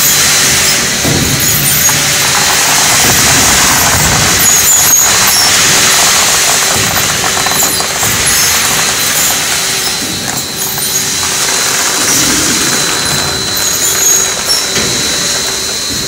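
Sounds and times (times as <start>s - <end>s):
machinery whirring: 0.0s - 16.0s
thin high whine: 0.0s - 16.0s.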